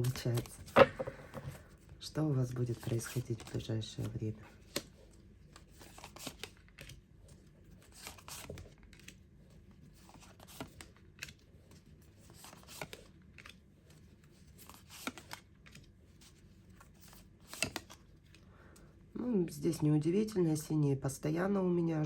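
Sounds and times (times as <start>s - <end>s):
cards being shuffled: 0.0s - 18.4s.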